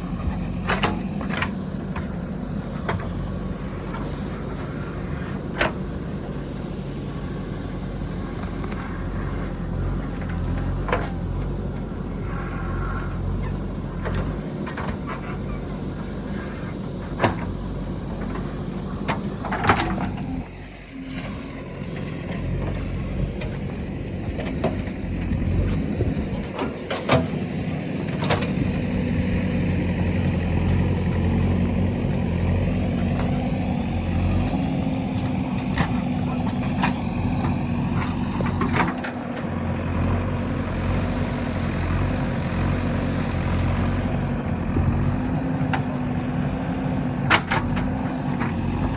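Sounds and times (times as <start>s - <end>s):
diesel engine of backhoe loader: 0.0s - 48.9s.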